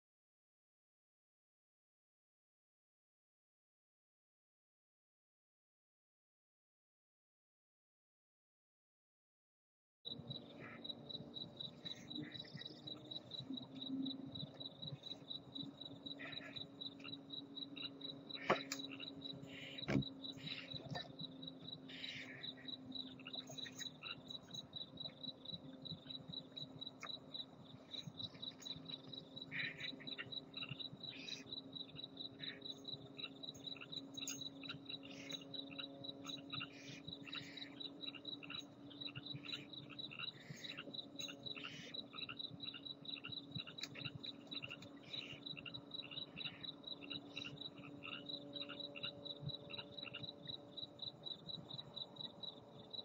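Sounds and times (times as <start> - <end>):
cricket chirping: 10.1 - 53.0
faint low hum: 10.1 - 53.0.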